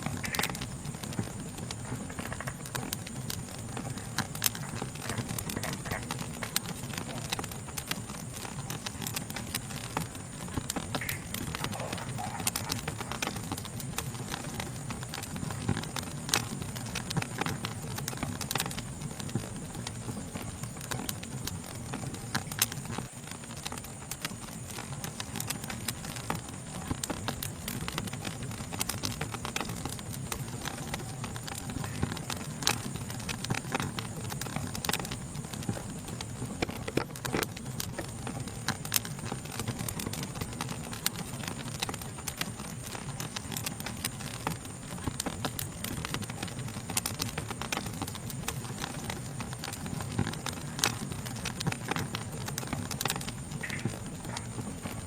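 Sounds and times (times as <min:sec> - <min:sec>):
insect chorus: 0:00.0 - 0:55.0
wood fire crackling: 0:00.0 - 0:55.0.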